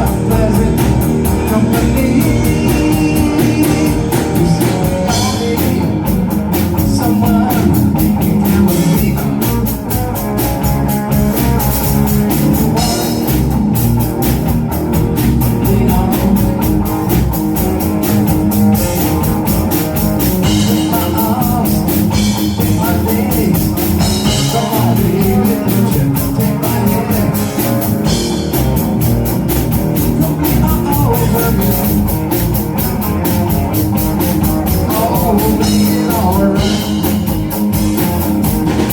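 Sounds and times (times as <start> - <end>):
drum kit with cymbals: 0.0 - 38.9
guitar: 0.0 - 38.9.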